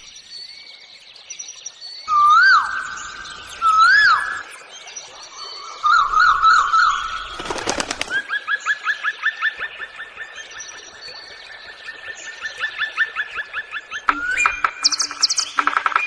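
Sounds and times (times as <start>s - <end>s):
bird song: 0.0s - 16.0s.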